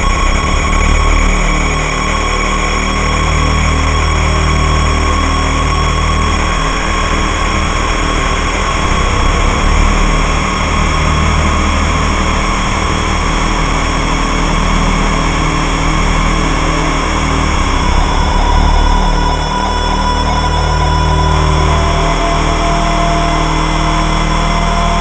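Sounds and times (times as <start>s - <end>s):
deep synthesizer rumble: 0.0s - 25.0s.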